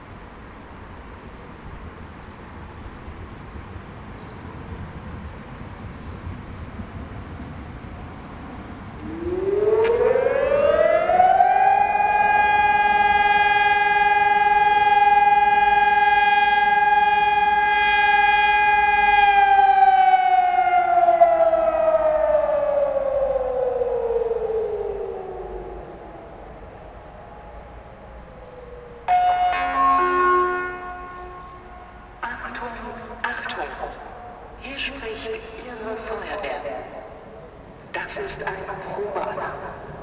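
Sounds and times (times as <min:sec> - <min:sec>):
warning siren: 0:07.8 - 0:40.0.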